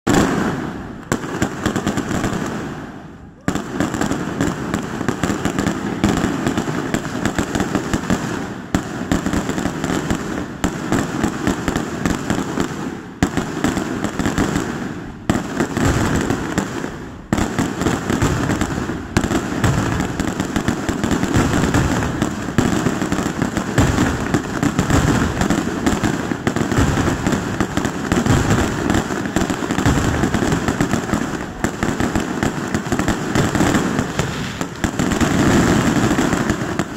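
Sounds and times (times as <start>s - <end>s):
fireworks bursting with crackle: 0.0s - 36.9s.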